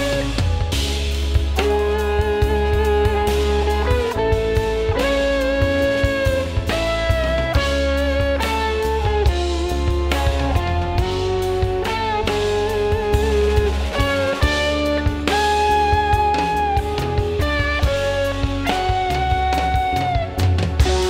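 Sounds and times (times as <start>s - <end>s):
bass line: 0.0s - 21.0s
drum kit: 0.0s - 21.0s
electric guitar melody: 0.0s - 21.0s.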